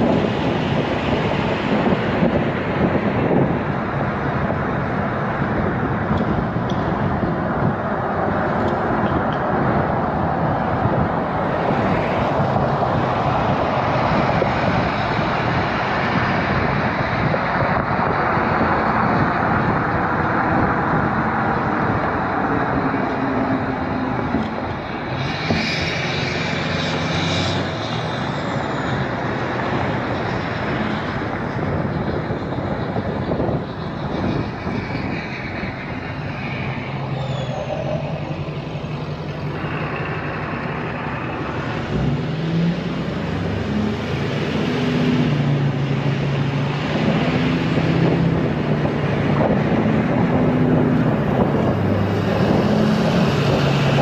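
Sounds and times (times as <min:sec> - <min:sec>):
passing vehicle engines: 0:00.0 - 0:54.0
tyres rumbling on road: 0:00.0 - 0:54.0.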